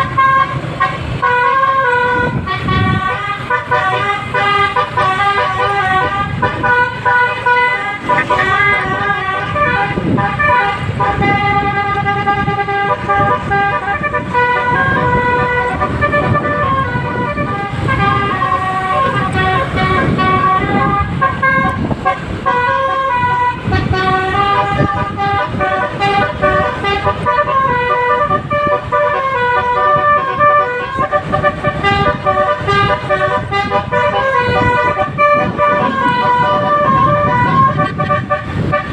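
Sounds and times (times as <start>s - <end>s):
bus horn playing a tune: 0.0s - 38.9s.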